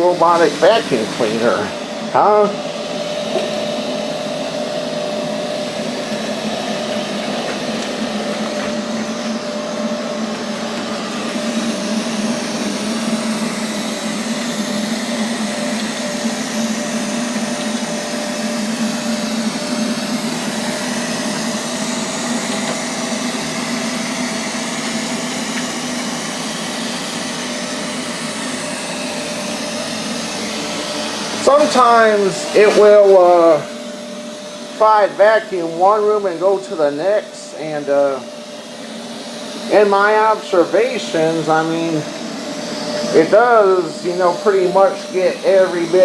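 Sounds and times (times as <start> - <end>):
robotic vacuum running: 0.0 - 46.0.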